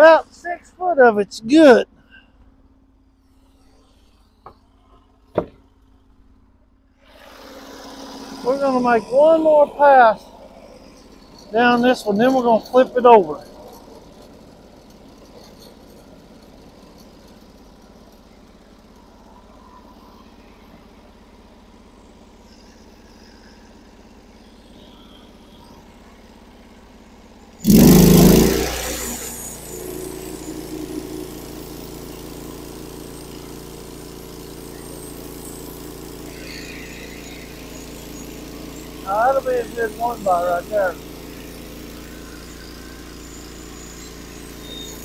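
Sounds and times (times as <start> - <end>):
sawmill engine running: 0.0 - 1.8, 7.1 - 45.0.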